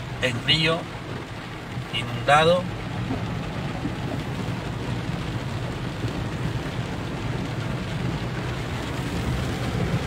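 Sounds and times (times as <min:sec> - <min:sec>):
heavy rain: 0:00.0 - 0:10.0
rushing floodwater: 0:00.0 - 0:10.0.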